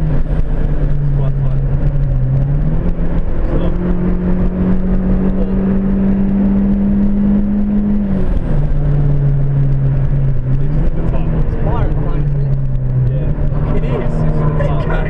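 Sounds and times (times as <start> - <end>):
car engine revving: 0.0 - 15.0
road and wind noise: 0.0 - 15.0.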